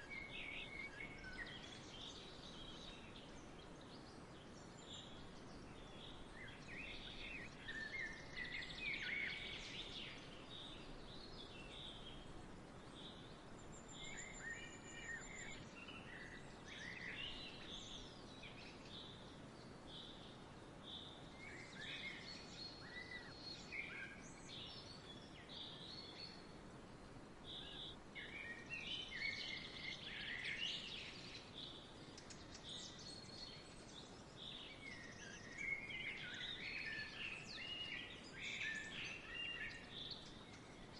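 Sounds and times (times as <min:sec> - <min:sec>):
outdoor background hiss: 0:00.0 - 0:40.9
songbirds chirping: 0:00.0 - 0:40.9.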